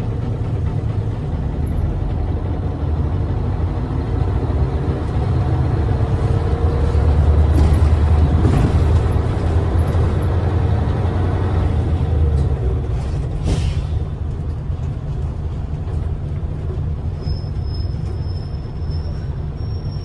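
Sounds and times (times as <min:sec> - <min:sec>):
bus diesel engine rumbling: 0:00.0 - 0:20.0
road noise: 0:00.0 - 0:20.0.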